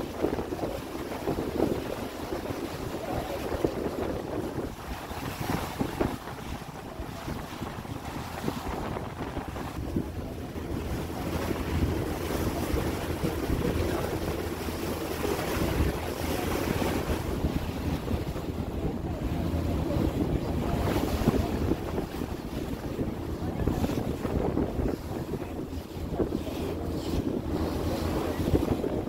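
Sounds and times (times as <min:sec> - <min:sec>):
ferry engine noise: 0:00.0 - 0:29.0
water rushing: 0:00.0 - 0:29.0
wind buffeting microphone: 0:00.0 - 0:29.0.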